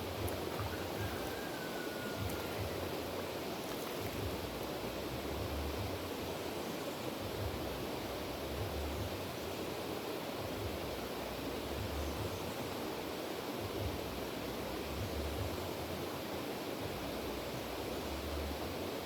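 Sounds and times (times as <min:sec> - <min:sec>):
river water rushing: 0:00.0 - 0:11.8, 0:12.4 - 0:19.0.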